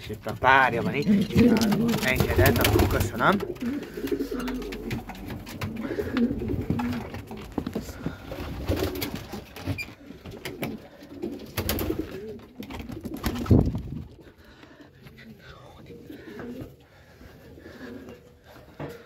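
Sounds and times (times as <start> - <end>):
pigeons cooing: 0.6 - 19.0.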